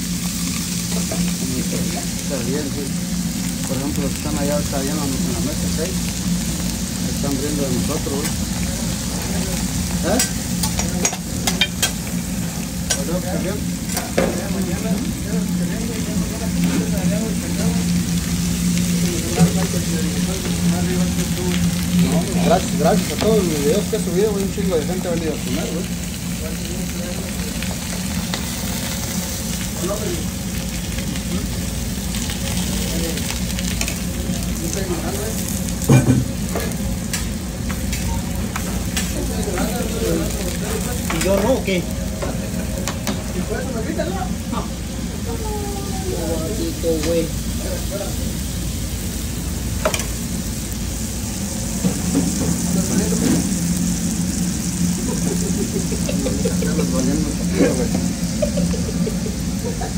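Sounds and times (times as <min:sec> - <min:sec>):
food sizzling in oil: 0:00.0 - 0:59.9
steady hum: 0:00.0 - 0:59.9.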